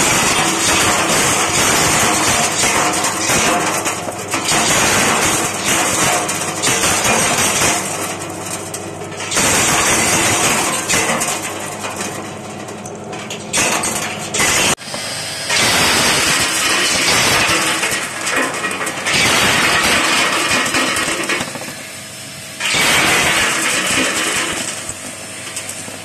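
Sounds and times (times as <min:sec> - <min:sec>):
shell-cracking machine running: 0:00.0 - 0:26.0.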